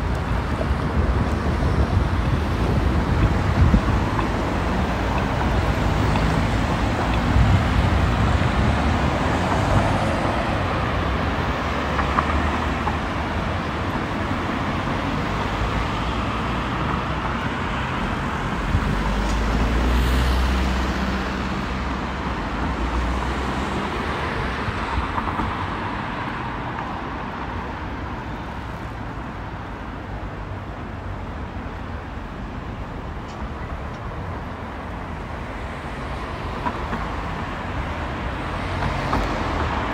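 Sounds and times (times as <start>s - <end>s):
heavy vehicle rumbling: 0.0s - 39.9s
passing cars humming: 0.0s - 39.9s.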